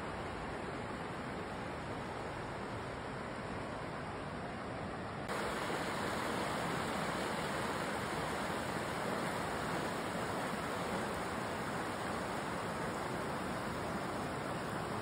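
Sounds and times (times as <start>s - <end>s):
stream flowing over rocks: 0.1s - 15.0s.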